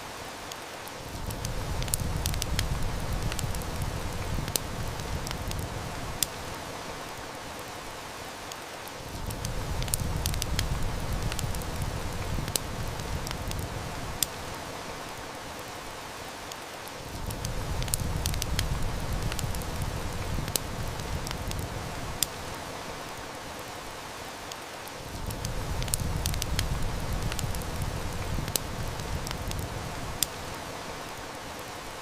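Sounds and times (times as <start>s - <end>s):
heavy rain hissing: 0.0s - 32.0s
wood fire crackling: 0.1s - 32.0s.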